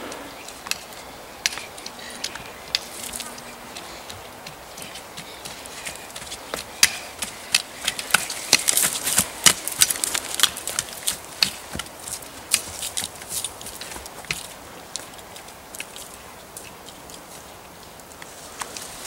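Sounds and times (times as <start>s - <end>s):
footsteps crunching dry leaves: 0.0s - 19.0s.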